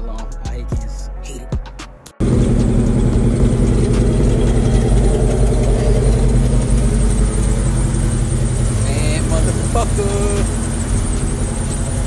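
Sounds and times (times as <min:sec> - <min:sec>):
car engine idling: 0:02.2 - 0:12.0.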